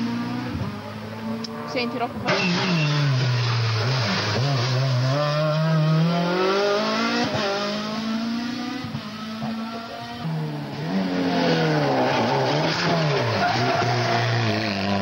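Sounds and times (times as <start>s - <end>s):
rally car engine accelerating: 0.0s - 15.0s
rally car engine through bend: 0.0s - 15.0s.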